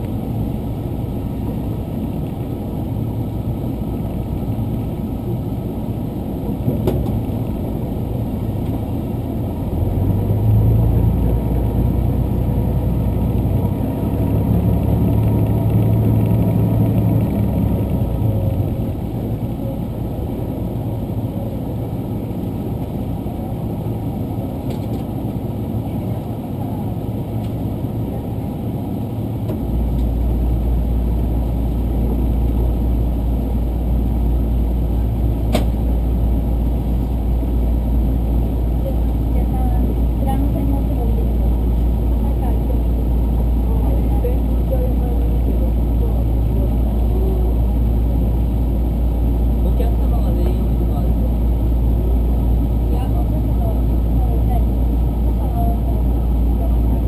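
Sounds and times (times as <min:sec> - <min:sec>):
deep hum: 0:00.0 - 0:57.0
train engine drone and rumble: 0:00.0 - 0:57.0.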